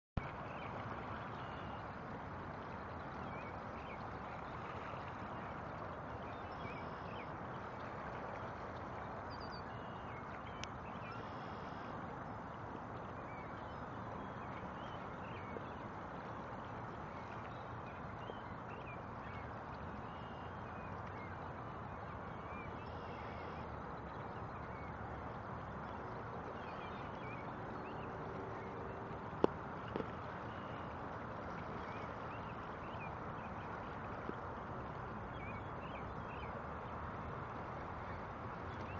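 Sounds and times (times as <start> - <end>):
lapping lake water: 0.2 - 38.9
wind: 0.2 - 38.9.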